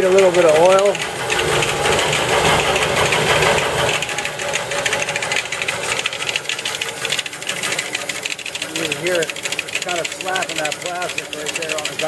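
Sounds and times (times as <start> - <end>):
band saw running: 0.0 - 12.0
blade ticking against guide: 0.0 - 12.0.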